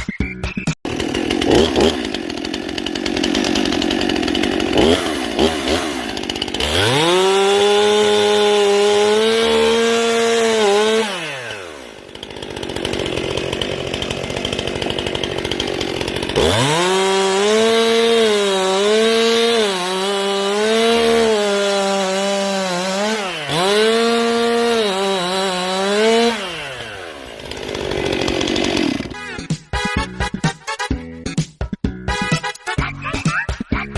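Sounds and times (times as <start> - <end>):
chainsaw idling: 0.9 - 29.2
chainsaw cutting wood: 0.9 - 29.3.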